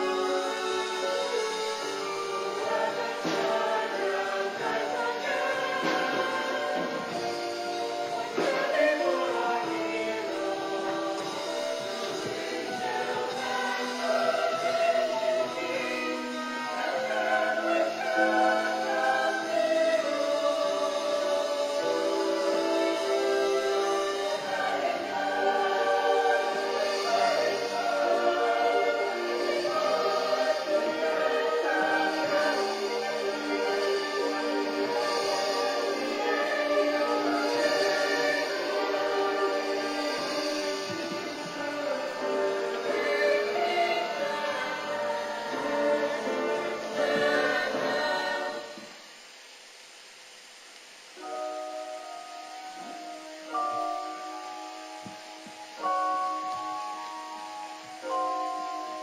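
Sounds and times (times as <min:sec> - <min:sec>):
instrumental accompaniment: 0:00.0 - 0:49.0
choir singing held notes: 0:00.0 - 0:59.0.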